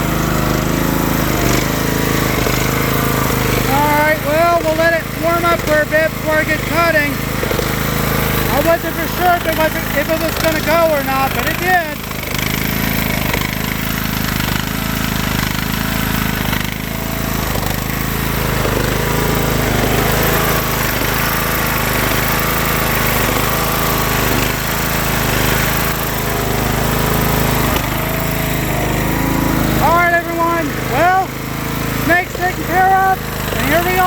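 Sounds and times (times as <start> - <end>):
lawn mower engine idling: 0.0 - 34.0.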